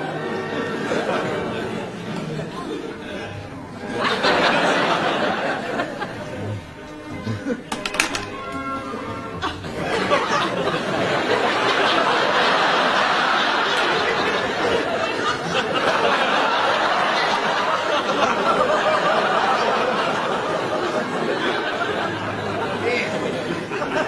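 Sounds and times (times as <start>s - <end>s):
studio audience laughing: 0.0s - 8.2s, 8.9s - 24.0s.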